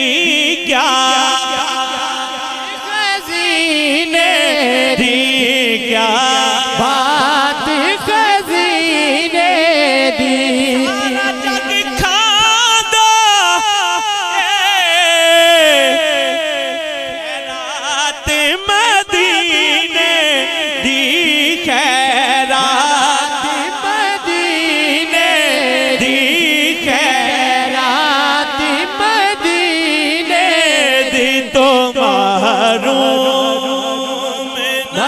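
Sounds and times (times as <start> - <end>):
man singing into a microphone: 0.0 - 35.0.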